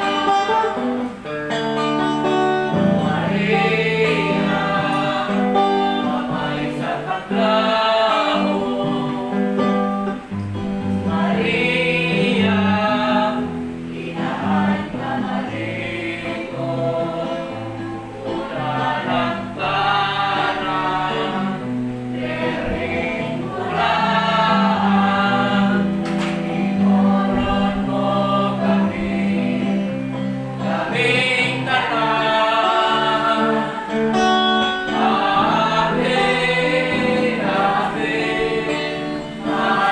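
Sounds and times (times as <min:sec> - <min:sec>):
group of voices singing: 0:00.0 - 0:39.9.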